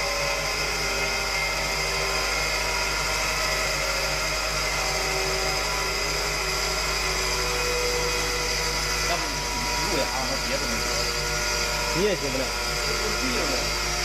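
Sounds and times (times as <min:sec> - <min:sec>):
centrifuge high-pitched whine: 0:00.0 - 0:14.0.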